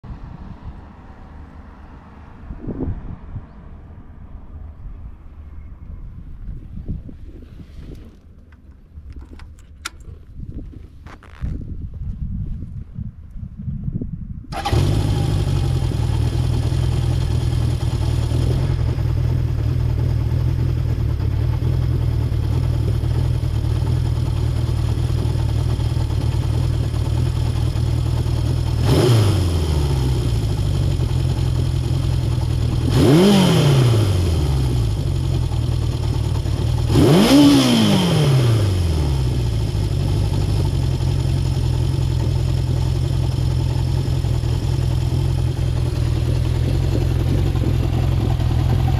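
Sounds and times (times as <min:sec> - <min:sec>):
motorcycle engine idling and revving: 0:00.0 - 0:12.8, 0:14.5 - 0:48.9.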